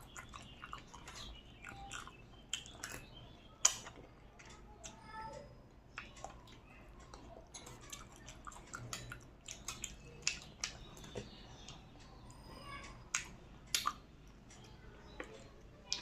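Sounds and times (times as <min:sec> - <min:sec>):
wet chewing mouth sounds: 0:00.0 - 0:05.0, 0:05.9 - 0:12.3, 0:13.1 - 0:16.0.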